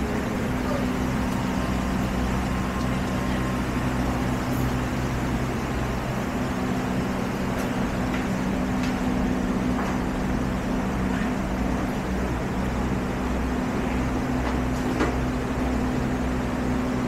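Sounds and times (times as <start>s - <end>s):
city street noise: 0.0s - 17.0s
low mechanical hum: 0.0s - 17.0s.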